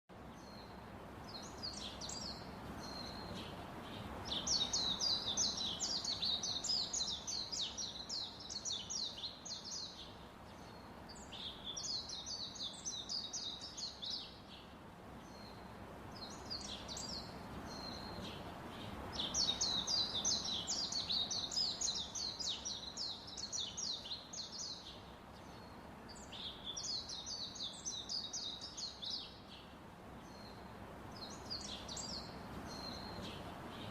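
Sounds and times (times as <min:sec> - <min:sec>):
faint steady background hiss: 0:00.1 - 0:33.9
small birds chirping: 0:00.1 - 0:33.9.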